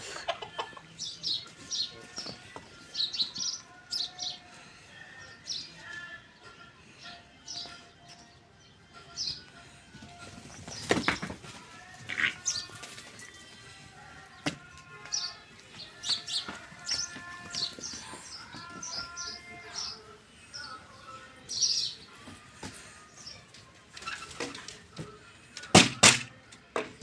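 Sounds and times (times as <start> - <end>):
small birds chirping: 0.1 - 25.2.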